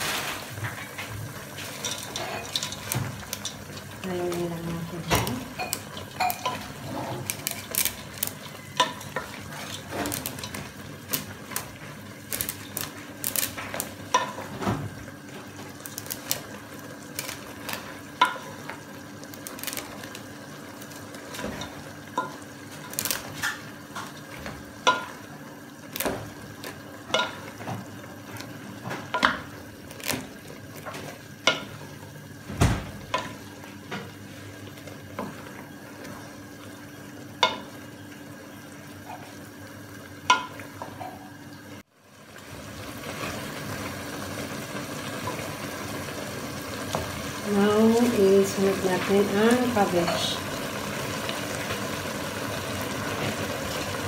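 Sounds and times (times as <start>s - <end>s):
low sizzle: 0.0s - 54.0s.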